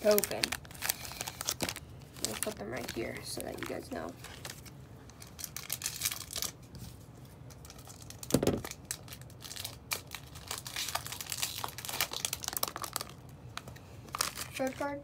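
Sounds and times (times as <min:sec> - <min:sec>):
foil wrapper crinkling and tearing: 0:00.0 - 0:15.0.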